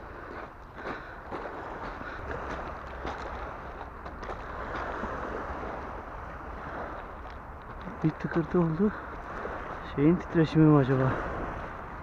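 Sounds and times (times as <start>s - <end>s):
waves washing onto pebbles: 0.0s - 12.0s
wind on microphone: 0.0s - 12.0s.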